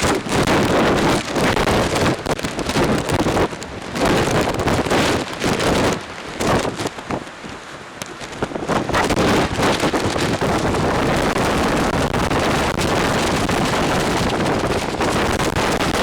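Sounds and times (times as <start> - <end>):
wind gusts buffeting microphone: 0.0 - 16.0.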